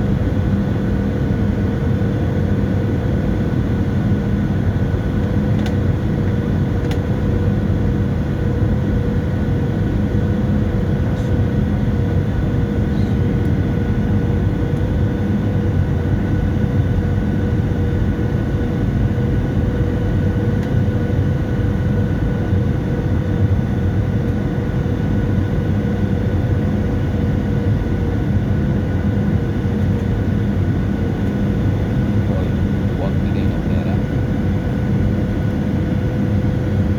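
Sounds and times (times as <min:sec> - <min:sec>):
airplane cabin engine noise: 0:00.0 - 0:36.9.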